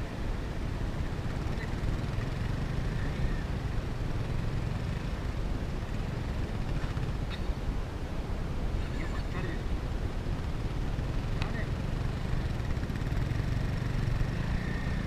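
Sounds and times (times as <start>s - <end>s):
motorcycle engine running: 0.0s - 7.6s, 8.7s - 15.0s.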